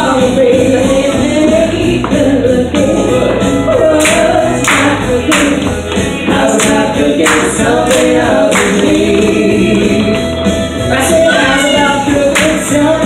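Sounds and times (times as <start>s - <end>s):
honky-tonk country music: 0.0s - 13.0s
voices singing together: 0.0s - 13.0s.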